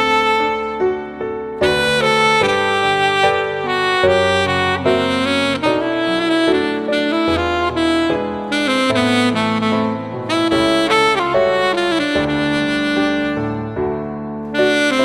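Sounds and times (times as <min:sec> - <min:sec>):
backing track: 0:00.0 - 0:15.0
saxophone ballad melody: 0:00.0 - 0:15.0.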